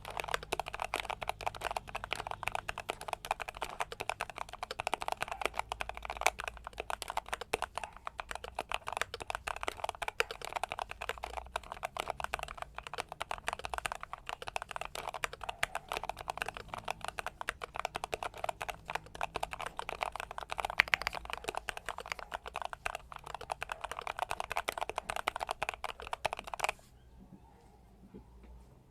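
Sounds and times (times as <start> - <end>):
typing on mechanical keyboard: 0.0 - 26.8.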